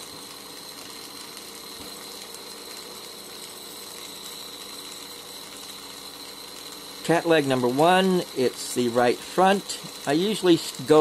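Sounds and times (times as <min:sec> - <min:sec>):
thin high whine: 0:00.0 - 0:11.0
torch burning with hiss: 0:00.0 - 0:11.0.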